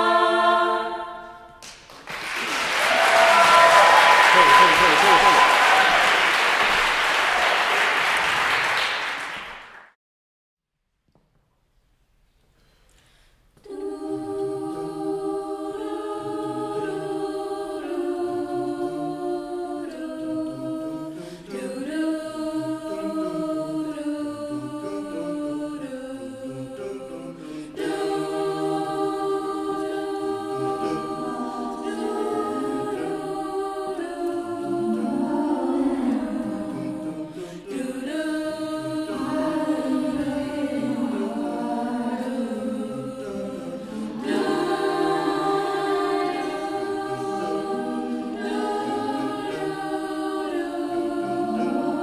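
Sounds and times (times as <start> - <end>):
vocal ensemble singing a cappella: 0.0 - 8.2, 13.0 - 52.0.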